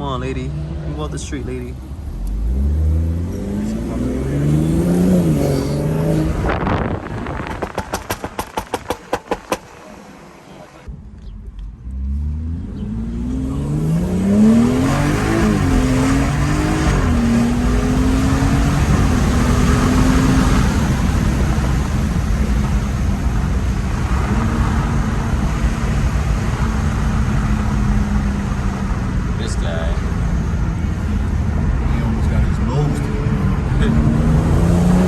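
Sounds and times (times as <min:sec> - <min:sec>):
car engine accelerating: 0:00.0 - 0:35.0
road noise: 0:00.0 - 0:35.0.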